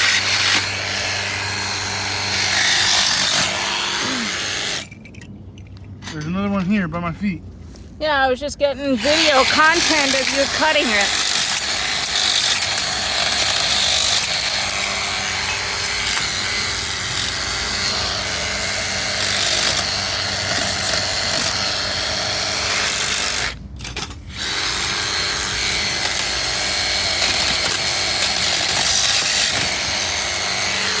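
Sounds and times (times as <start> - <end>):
power tool cutting metal: 0.0 - 5.0, 9.0 - 31.0.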